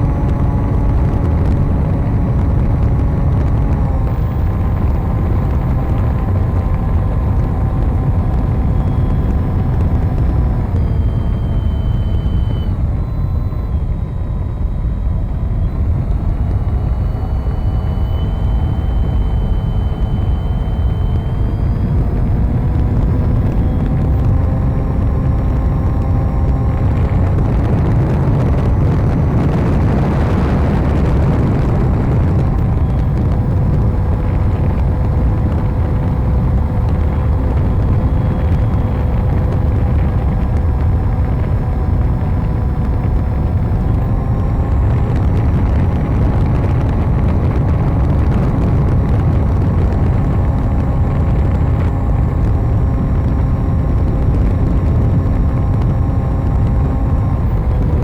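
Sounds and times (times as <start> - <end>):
model airplane propeller drone: 0.0 - 58.0
wind buffeting on microphone: 0.0 - 58.0.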